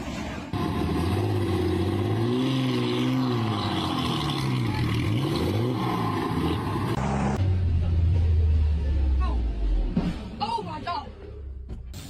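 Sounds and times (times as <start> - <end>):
engine revving: 0.5 - 10.4.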